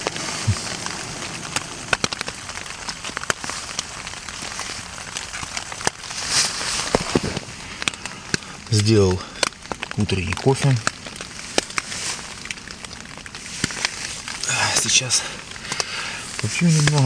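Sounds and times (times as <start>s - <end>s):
gas camping stove hissing: 0.0s - 9.8s, 11.1s - 17.0s
drizzle pattering on tent fabric: 0.0s - 17.0s.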